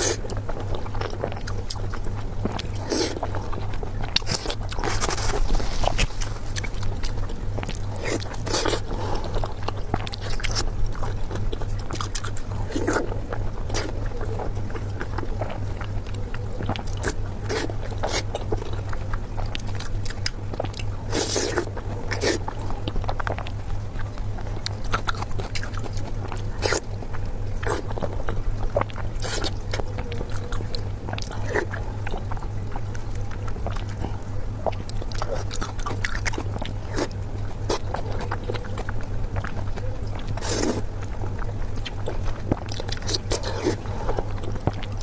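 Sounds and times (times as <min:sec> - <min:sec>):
chewing and biting food: 0:00.0 - 0:45.0
low hum: 0:00.0 - 0:45.0.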